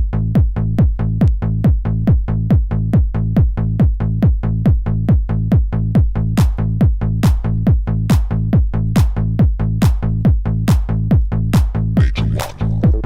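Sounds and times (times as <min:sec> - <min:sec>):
drum machine kick: 0:00.0 - 0:13.0.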